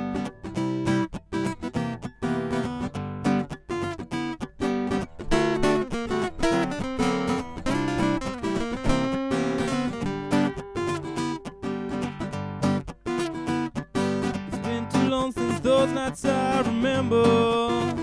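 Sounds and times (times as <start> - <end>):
rockabilly guitar strumming and picking: 0.0 - 18.0.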